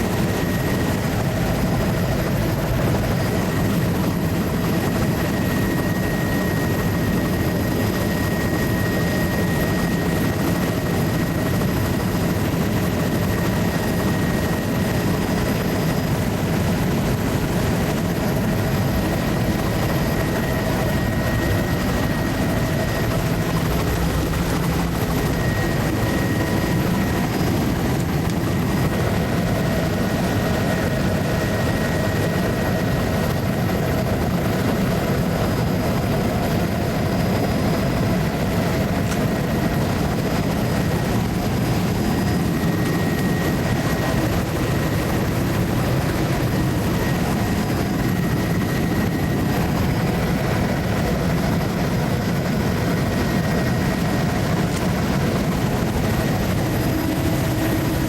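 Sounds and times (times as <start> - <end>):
aircraft engine and propeller drone: 0.0 - 58.0
faint steady tones: 0.0 - 58.0.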